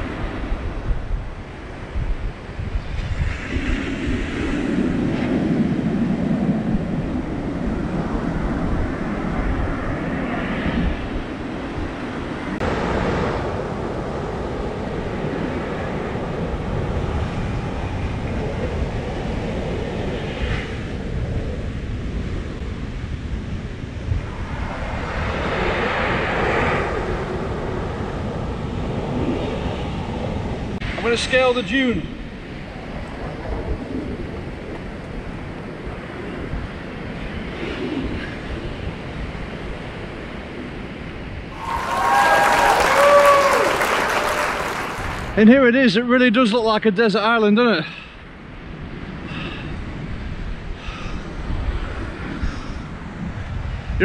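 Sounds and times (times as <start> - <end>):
waves breaking on a beach: 0.0 - 45.7, 47.2 - 54.0
wind rumble on microphone: 0.0 - 54.0.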